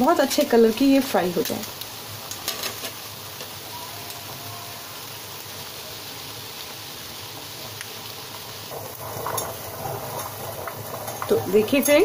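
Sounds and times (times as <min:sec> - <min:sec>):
bread deep-frying sizzling: 0:00.0 - 0:12.0.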